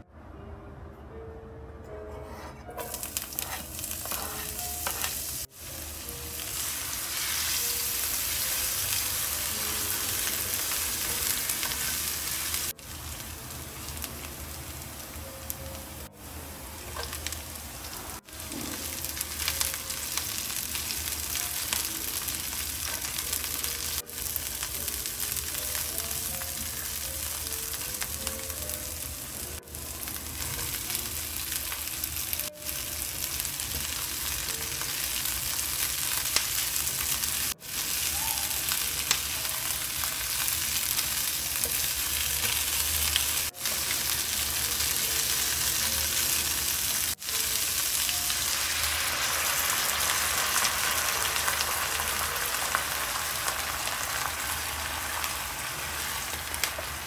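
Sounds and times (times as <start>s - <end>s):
food sizzling in hot oil: 2.8s - 57.0s.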